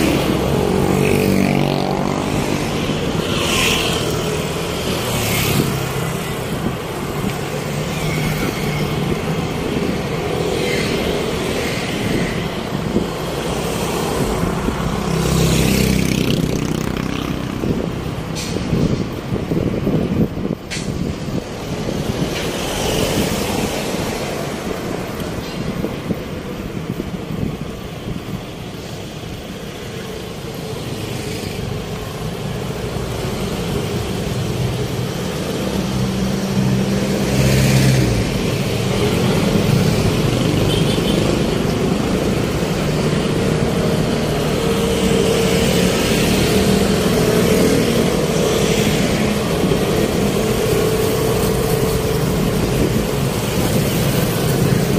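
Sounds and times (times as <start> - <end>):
cars and trucks passing: 0.0 - 54.9.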